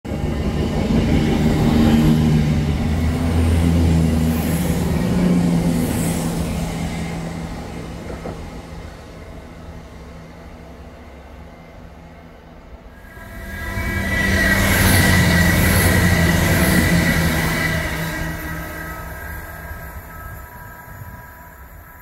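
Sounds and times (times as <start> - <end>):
diesel train engine drone: 0.1 - 22.0.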